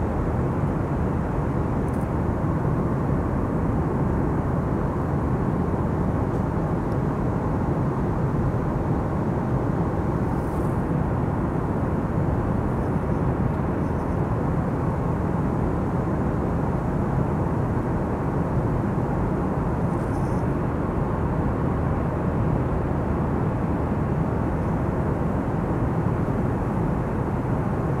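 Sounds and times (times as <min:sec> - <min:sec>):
airliner cabin engine noise: 0:00.0 - 0:28.0.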